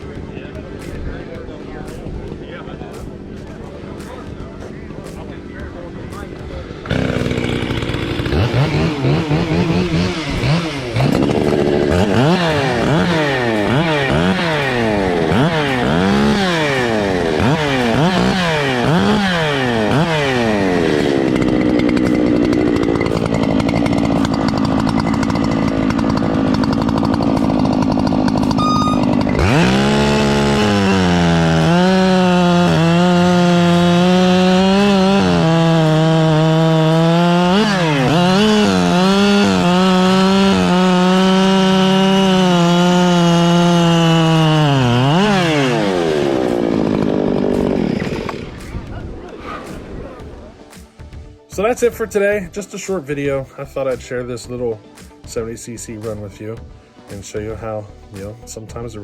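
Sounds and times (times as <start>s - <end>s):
chainsaw engines revving: 0.0s - 59.0s.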